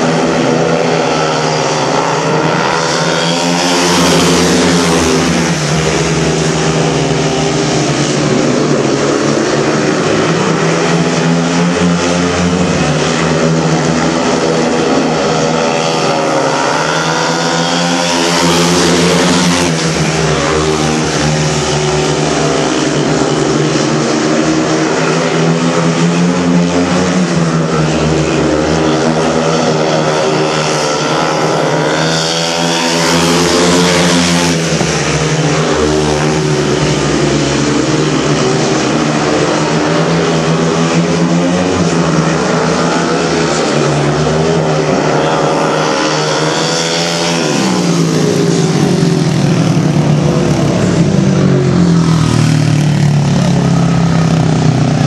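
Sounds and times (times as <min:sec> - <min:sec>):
motorcycles racing: 0:00.0 - 0:55.0.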